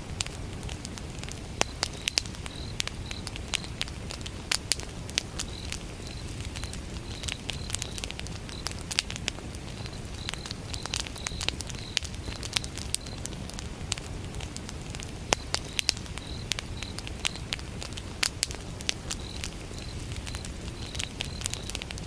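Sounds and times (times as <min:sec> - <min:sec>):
campfire crackling and popping: 0:00.0 - 0:22.0
crickets chirping: 0:01.5 - 0:14.6, 0:15.2 - 0:22.0.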